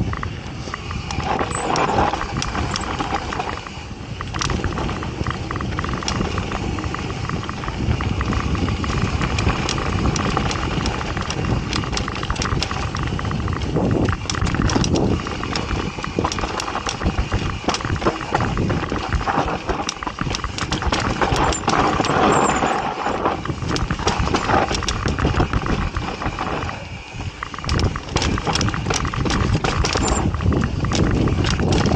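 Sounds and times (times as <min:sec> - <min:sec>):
bike rattling over bumps: 0:00.0 - 0:31.9
mountain bike tyre rush: 0:00.0 - 0:31.9.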